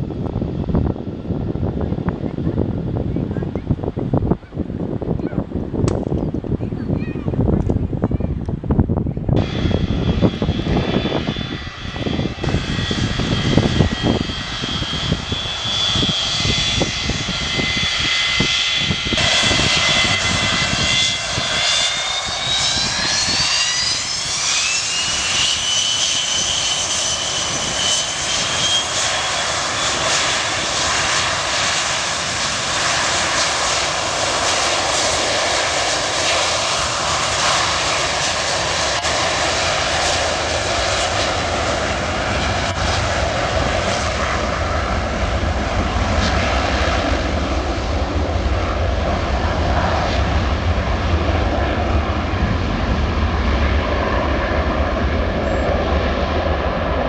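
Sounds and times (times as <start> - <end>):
gusty low rumble: 0.0 - 57.0
jet roar: 0.0 - 57.0
jet engines spooling up: 9.3 - 57.0.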